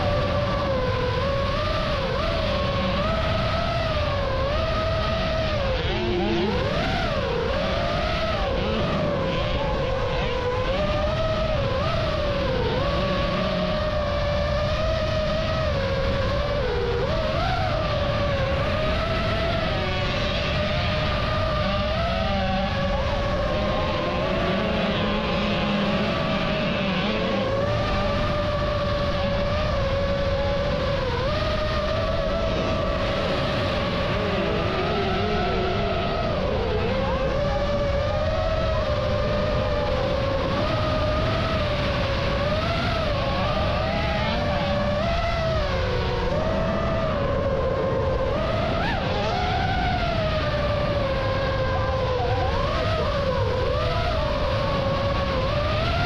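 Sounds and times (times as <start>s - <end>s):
drone motors whining: 0.0s - 56.0s
lower motor tone: 0.0s - 56.0s.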